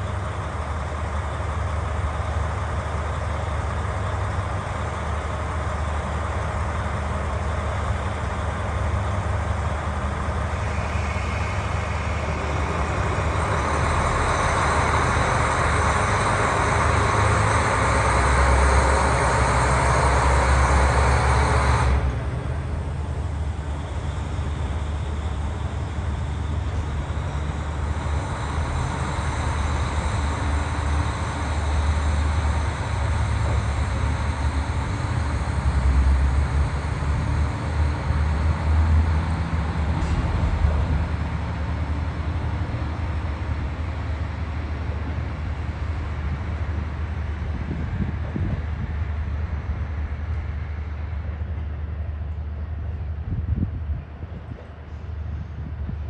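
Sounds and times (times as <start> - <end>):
diesel railcar idling: 0.0 - 56.0.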